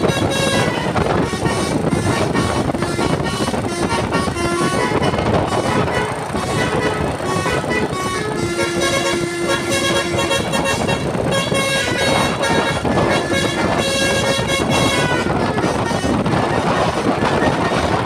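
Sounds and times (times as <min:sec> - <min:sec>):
musical air horn melody: 0:00.0 - 0:18.0
truck engine: 0:00.0 - 0:18.0.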